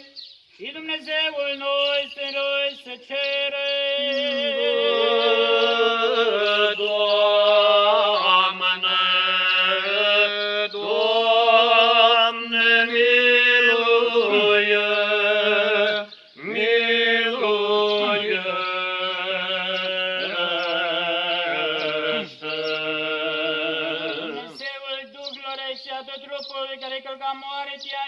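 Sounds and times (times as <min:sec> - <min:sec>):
liturgical chant with drone: 0:00.8 - 0:25.4.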